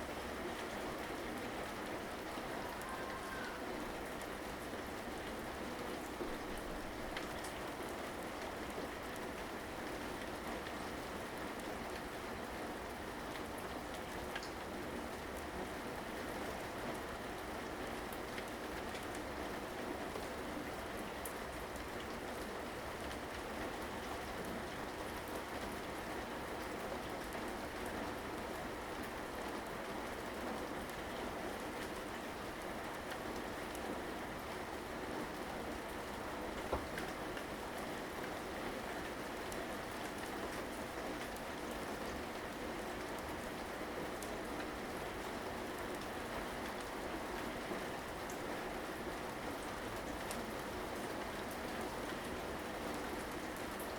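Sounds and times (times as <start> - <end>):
rain pattering: 0.0 - 53.9.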